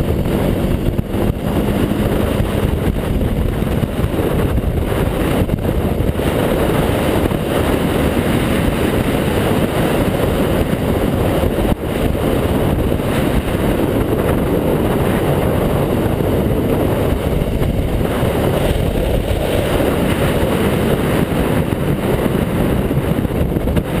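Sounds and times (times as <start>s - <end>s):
atv engine running: 0.0s - 24.0s
wind on microphone: 0.0s - 24.0s.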